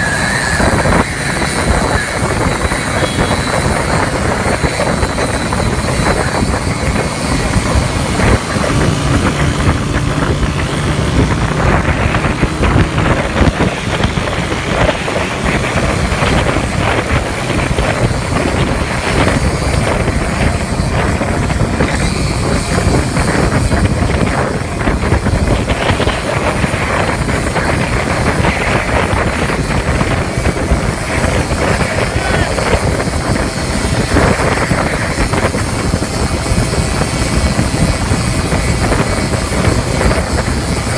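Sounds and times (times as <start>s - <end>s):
motorcycle rickshaw engine running: 0.0s - 40.9s
wind buffeting on microphone: 0.0s - 40.9s.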